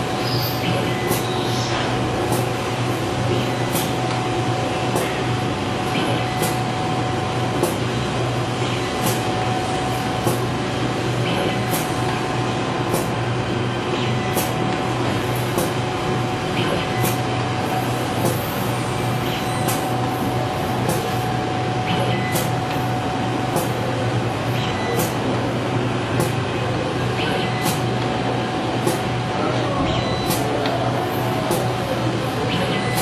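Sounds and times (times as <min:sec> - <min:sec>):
machine mechanical hum: 0:00.0 - 0:33.0.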